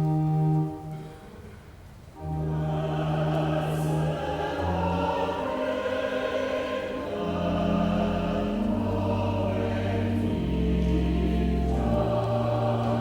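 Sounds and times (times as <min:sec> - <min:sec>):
sustained organ notes: 0:00.0 - 0:01.2, 0:02.2 - 0:13.0
choir singing: 0:02.2 - 0:13.0
organ chord: 0:02.2 - 0:13.0.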